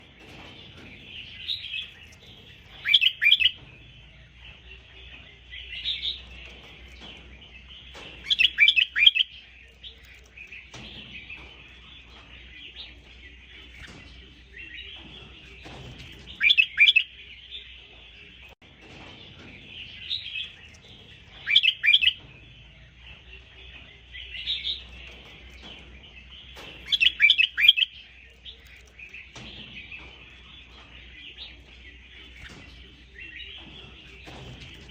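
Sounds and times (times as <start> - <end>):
bulbul singing: 0.0 - 34.9.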